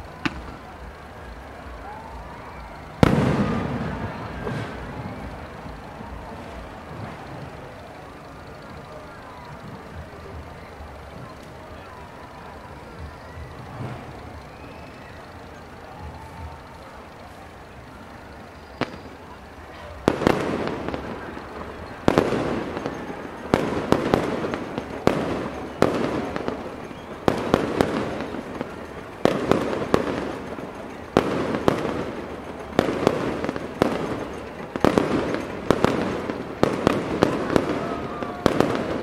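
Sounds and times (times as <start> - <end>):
fireworks shells bursting: 0.0 - 39.0.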